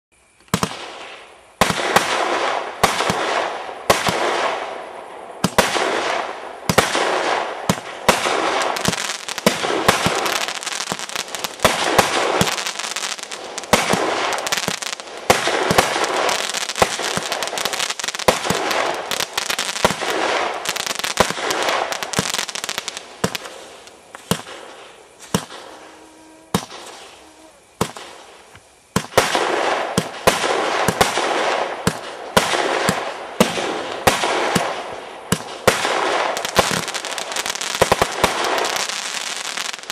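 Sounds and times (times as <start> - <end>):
firework bangs: 0.5 - 39.9
firework crackling: 0.5 - 39.9.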